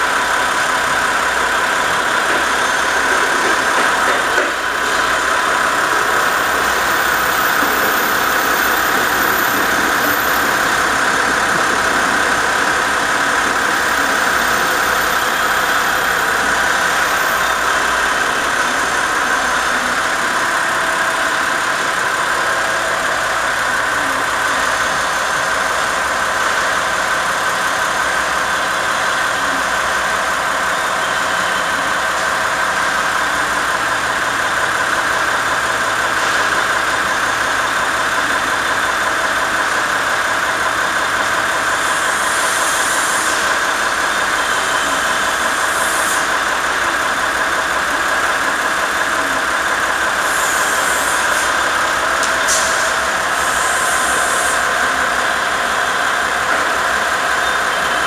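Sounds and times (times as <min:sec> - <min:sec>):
diesel railcar idling: 0:00.0 - 0:58.0.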